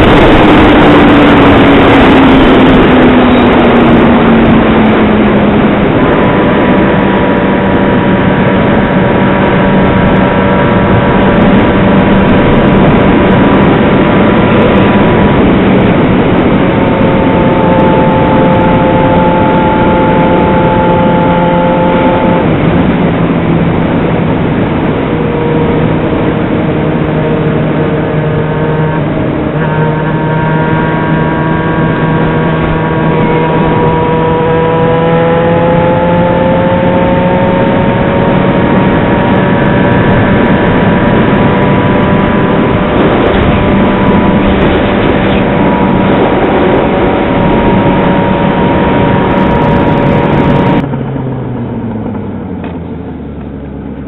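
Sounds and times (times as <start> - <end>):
wind noise: 0.0 - 52.9
motorcycle engine cruising: 0.0 - 54.0.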